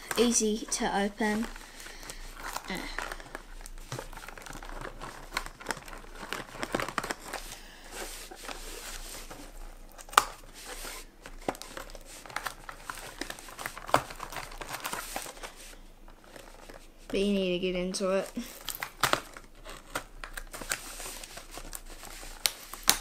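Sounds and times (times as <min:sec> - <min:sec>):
cardboard and tape crinkling: 0:00.0 - 0:23.0.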